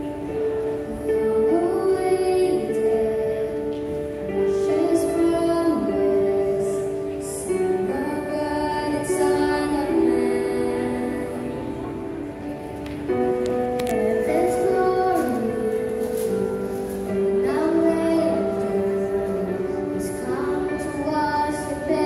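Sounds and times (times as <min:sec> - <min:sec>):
girl singing into microphone: 0:00.0 - 0:22.0
musical accompaniment: 0:00.0 - 0:22.0.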